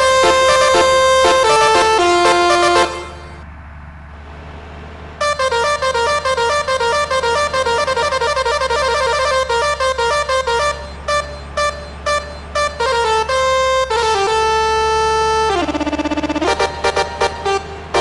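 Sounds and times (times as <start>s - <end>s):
musical bus air horn: 0.0s - 3.4s, 5.2s - 18.0s.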